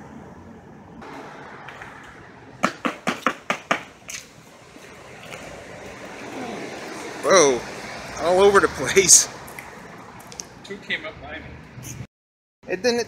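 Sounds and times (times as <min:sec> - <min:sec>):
outdoor background noise: 0:00.0 - 0:12.1.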